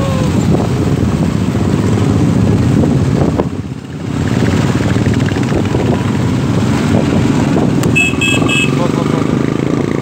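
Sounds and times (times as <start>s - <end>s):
motorcycle engines riding past: 0.0s - 10.0s.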